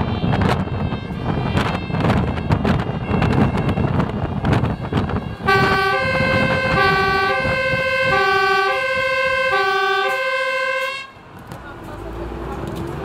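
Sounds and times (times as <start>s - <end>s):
fire truck two-tone siren: 0.0s - 11.3s.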